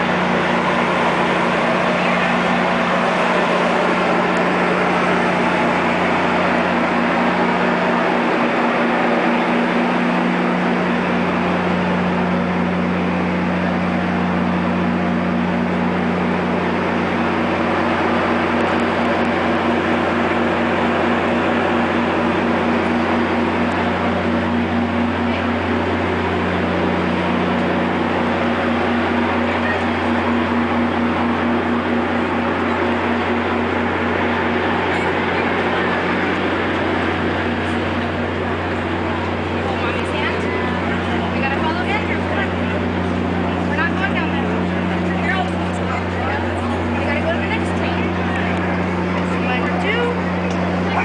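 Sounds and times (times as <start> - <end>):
diesel locomotive idling: 0.0 - 51.0.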